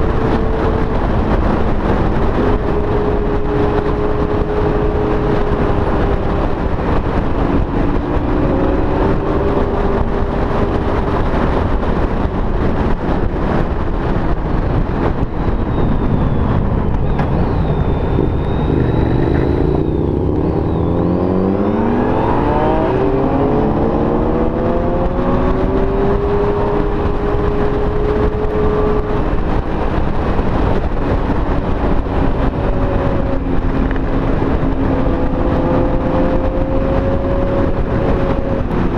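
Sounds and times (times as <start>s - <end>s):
motorcycle engines revving: 0.0s - 38.9s
wind rushing over microphone: 0.0s - 38.9s.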